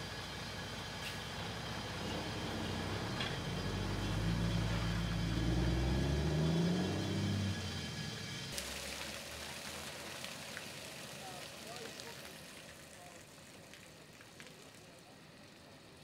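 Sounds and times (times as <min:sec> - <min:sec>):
truck diesel engine accelerating: 0:00.0 - 0:14.1.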